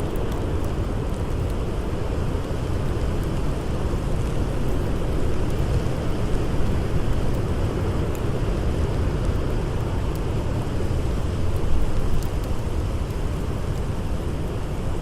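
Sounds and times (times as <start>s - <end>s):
faint campfire crackles: 0.0s - 15.0s.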